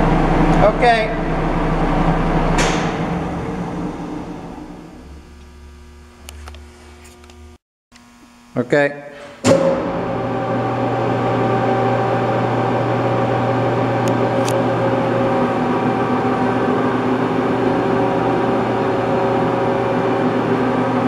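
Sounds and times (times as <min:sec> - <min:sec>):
mixer motor hum and whir: 0:00.0 - 0:08.6, 0:09.4 - 0:21.0.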